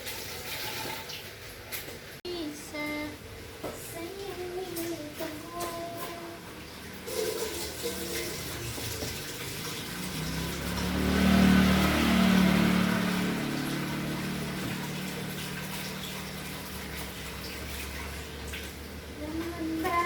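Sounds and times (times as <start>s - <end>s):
water running from a tap: 0.0s - 2.0s, 4.7s - 20.0s.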